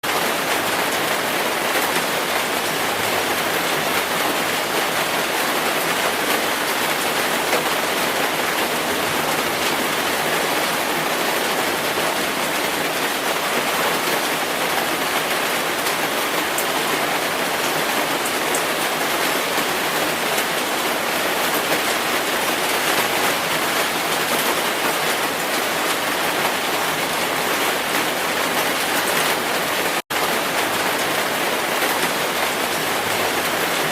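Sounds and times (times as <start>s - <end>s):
rain hissing and pattering: 0.0s - 33.9s.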